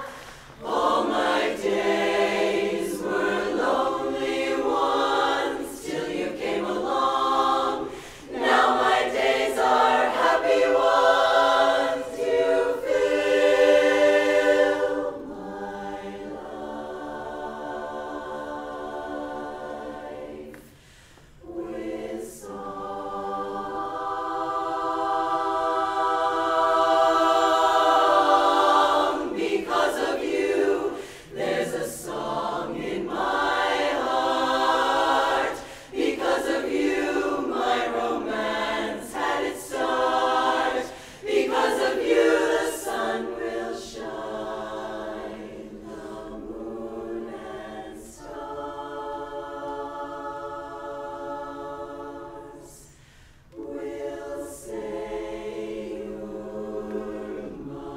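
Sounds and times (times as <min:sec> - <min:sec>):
women's a cappella chorus singing: 0:00.0 - 0:57.9.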